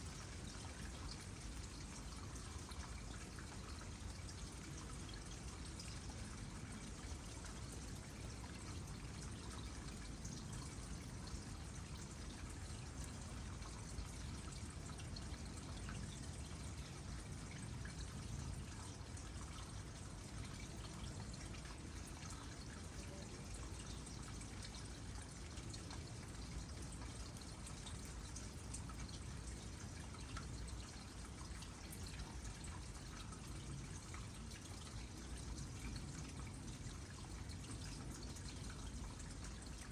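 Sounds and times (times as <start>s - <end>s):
small water drips: 0.0s - 39.9s
water trickling into pond: 0.0s - 39.9s.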